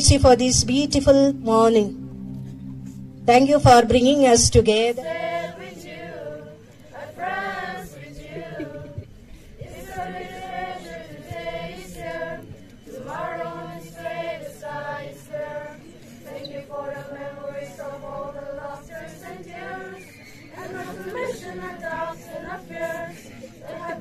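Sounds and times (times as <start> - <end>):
children singing together: 4.2 - 24.0.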